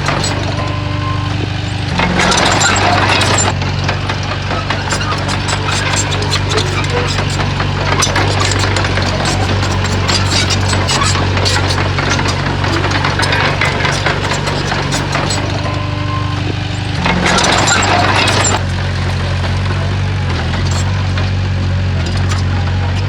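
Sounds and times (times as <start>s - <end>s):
heavy diesel machinery engine: 0.0s - 23.0s
rapid clatter of knocks: 0.0s - 23.0s.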